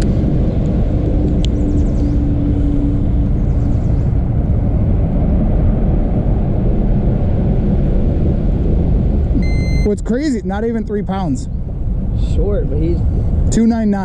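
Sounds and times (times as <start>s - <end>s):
faint steady hum: 0.0s - 14.0s
wind buffeting microphone: 0.0s - 14.0s.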